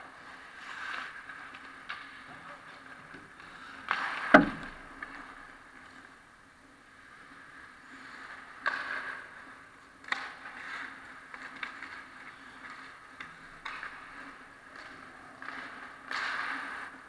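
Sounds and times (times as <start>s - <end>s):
hockey sticks or puck clacking: 0.0s - 6.1s, 7.0s - 17.0s
skate blades scraping ice: 0.0s - 6.2s, 6.8s - 17.0s.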